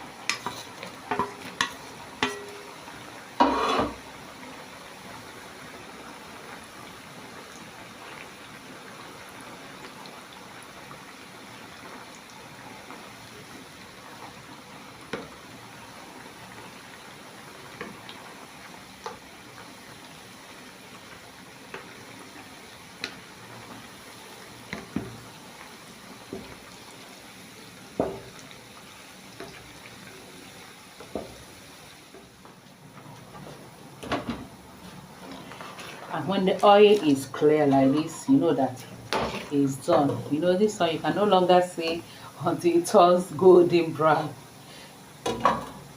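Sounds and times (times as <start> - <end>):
dough deep-frying in hot oil: 0.0 - 45.9.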